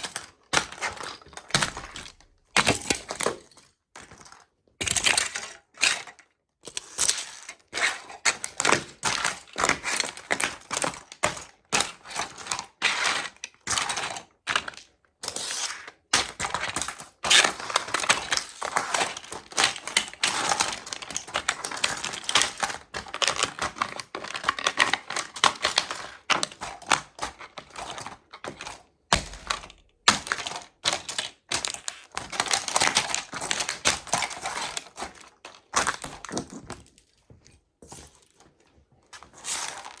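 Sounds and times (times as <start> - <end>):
toy trucks cracking and crunching: 0.0 - 37.2, 39.1 - 40.0.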